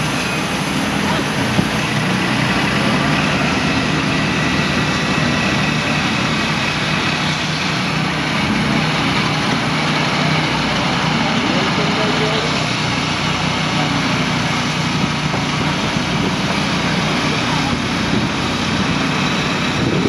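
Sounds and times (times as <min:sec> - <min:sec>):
small gasoline engine running: 0:00.0 - 0:20.0.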